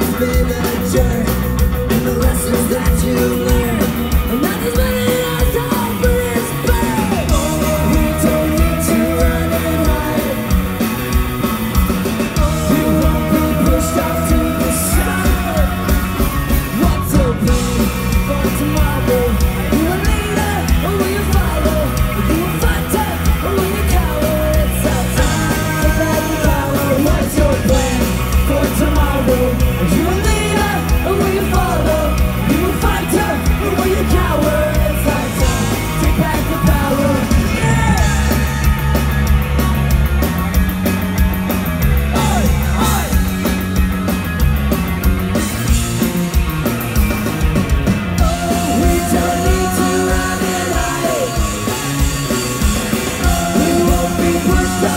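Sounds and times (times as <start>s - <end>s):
crowd yelling and singing: 0.0s - 54.9s
live punk band playing: 0.0s - 54.9s.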